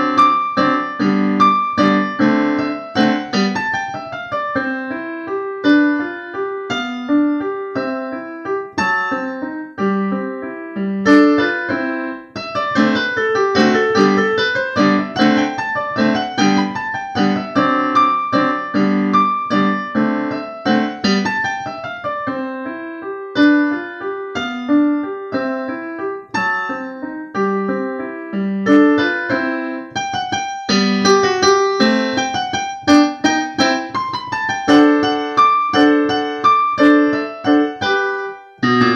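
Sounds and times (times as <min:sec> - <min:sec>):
digital piano classical piece: 0:00.0 - 0:38.9.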